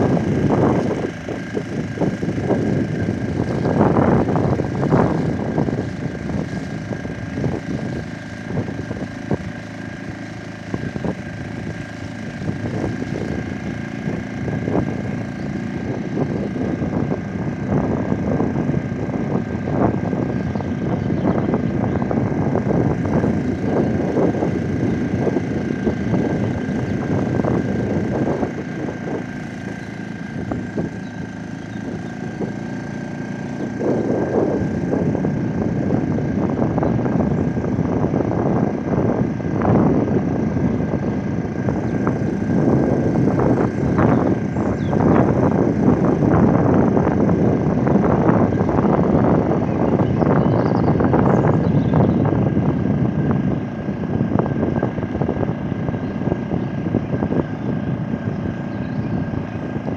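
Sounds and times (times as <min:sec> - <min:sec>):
small boat motor running: 0:00.0 - 0:59.9
wind noise on microphone: 0:00.0 - 0:59.9.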